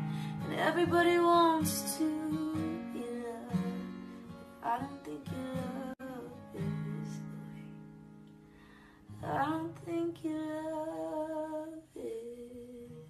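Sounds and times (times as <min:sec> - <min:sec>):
woman singing softly: 0:00.0 - 0:04.0, 0:04.6 - 0:07.8, 0:09.1 - 0:13.0.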